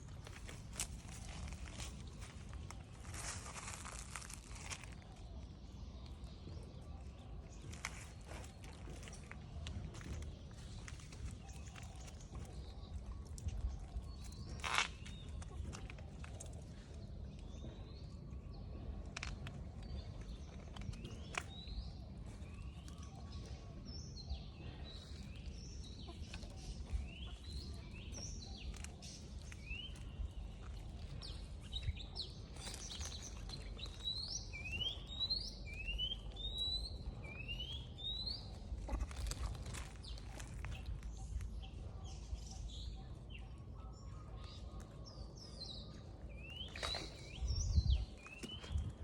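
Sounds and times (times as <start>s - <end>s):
birds chirping: 0.0s - 49.0s
low outdoor rumble: 0.0s - 49.0s.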